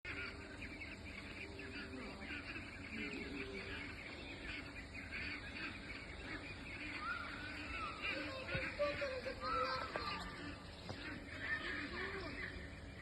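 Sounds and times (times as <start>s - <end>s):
goslings peeping: 0.1s - 13.0s.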